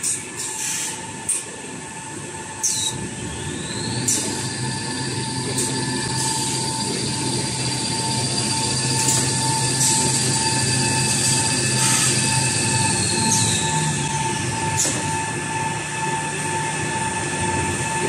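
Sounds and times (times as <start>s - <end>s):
machinery hum and whine: 0.0s - 18.0s.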